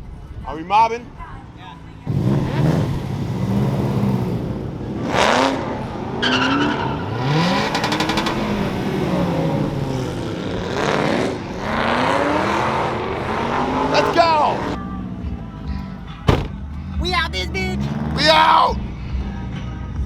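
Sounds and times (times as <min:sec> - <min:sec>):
car engines revving: 0:02.0 - 0:18.7.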